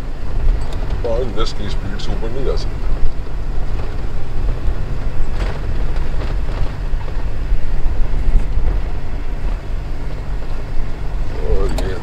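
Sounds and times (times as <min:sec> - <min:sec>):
car rumbling on rough road: 0:00.0 - 0:12.0
car jolts: 0:00.2 - 0:12.0.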